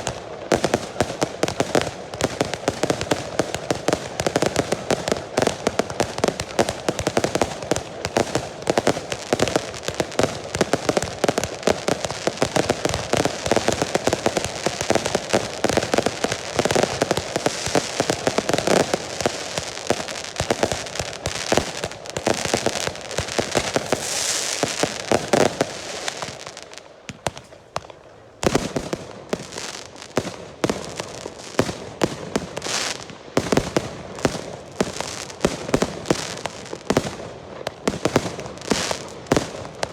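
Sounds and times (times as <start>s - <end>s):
fireworks barrage of bangs: 0.0s - 39.9s
loud firework bangs: 0.0s - 39.9s.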